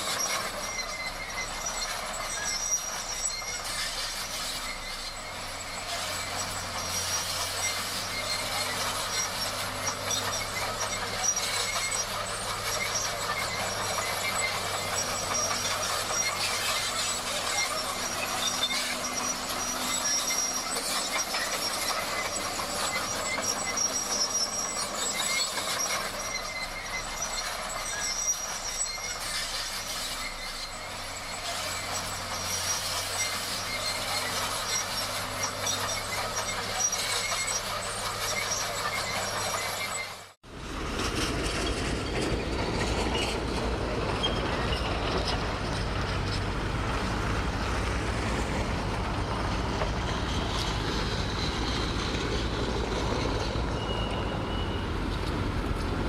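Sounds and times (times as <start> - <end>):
high metallic squeal: 0.0 - 40.4, 41.1 - 55.8
diesel engine running: 0.0 - 56.0.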